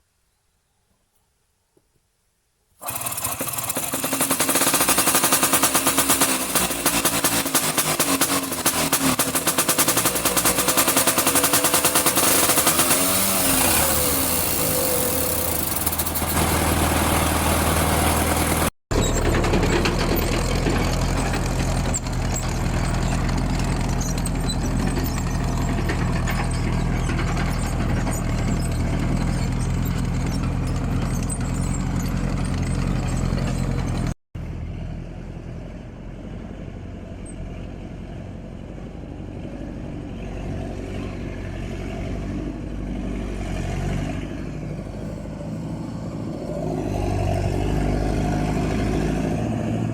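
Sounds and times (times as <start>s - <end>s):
vehicle engine humming: 3.2s - 49.9s.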